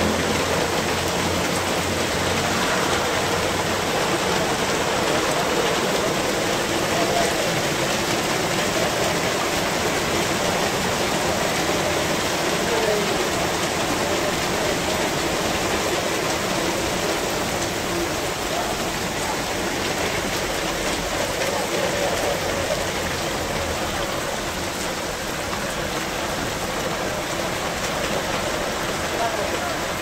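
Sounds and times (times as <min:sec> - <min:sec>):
heavy rain and hail falling: 0:00.0 - 0:30.0.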